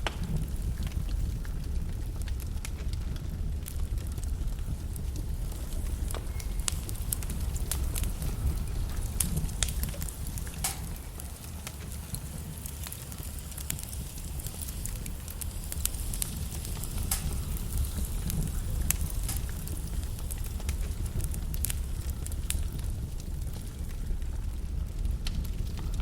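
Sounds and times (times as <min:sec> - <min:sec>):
fire rumbling: 0:00.0 - 0:26.0
logs crackling and popping: 0:00.0 - 0:26.0.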